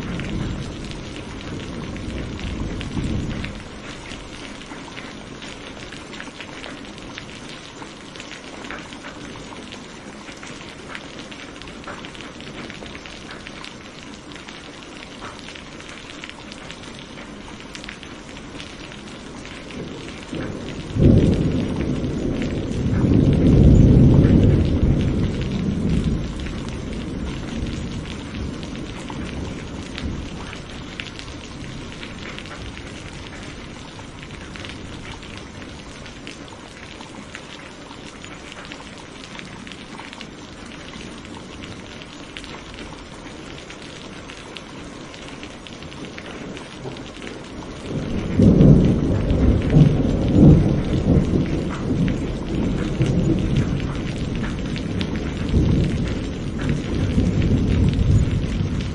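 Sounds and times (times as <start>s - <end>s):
steady rain falling: 0.0s - 58.9s
thunder rumbling: 0.0s - 58.9s.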